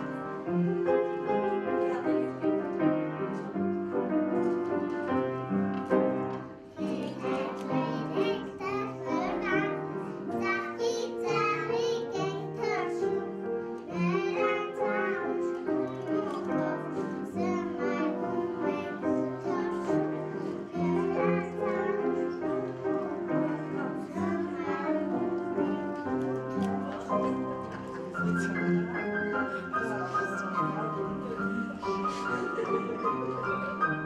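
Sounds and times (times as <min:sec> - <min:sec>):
instrumental accompaniment: 0:00.0 - 0:34.0
young children singing: 0:06.1 - 0:34.0.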